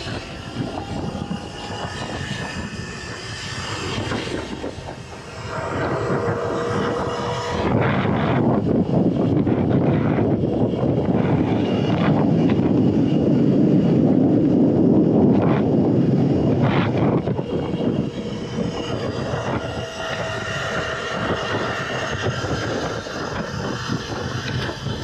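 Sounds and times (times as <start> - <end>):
electric dirt bike riding noise: 0.0 - 25.0
faint steady whine: 0.0 - 25.0
wind rushing over microphone: 0.0 - 25.0.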